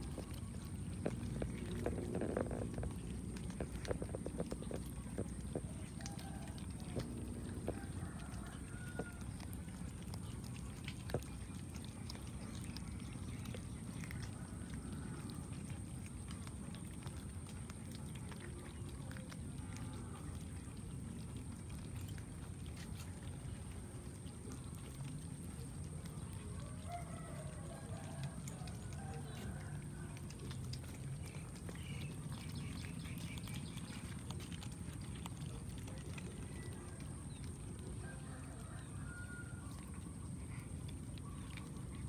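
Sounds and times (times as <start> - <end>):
cats chewing: 0.0 - 42.0
low background noise: 0.0 - 42.0.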